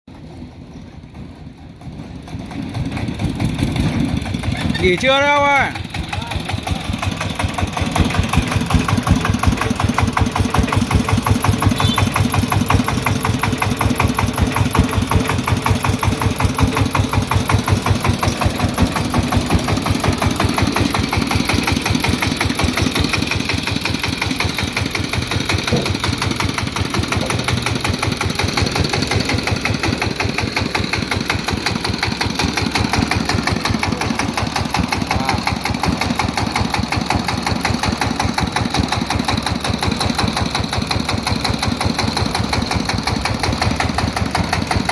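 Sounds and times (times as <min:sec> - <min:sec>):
diesel engine chugging: 0:00.1 - 0:44.9.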